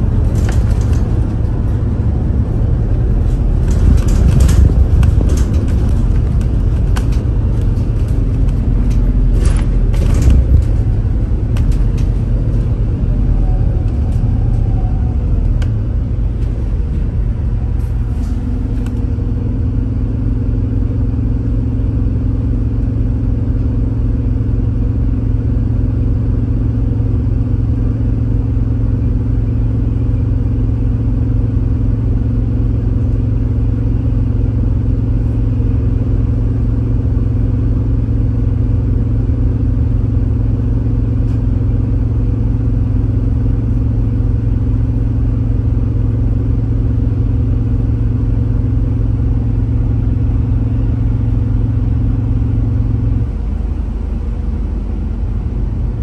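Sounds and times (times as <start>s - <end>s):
train humming: 0.0s - 56.0s.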